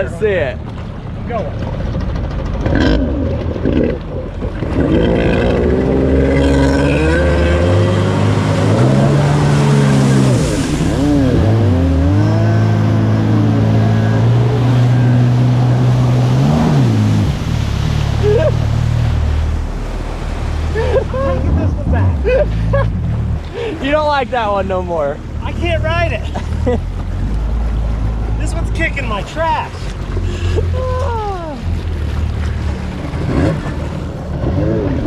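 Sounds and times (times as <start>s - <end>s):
jet ski engine revving: 0.6s - 35.0s.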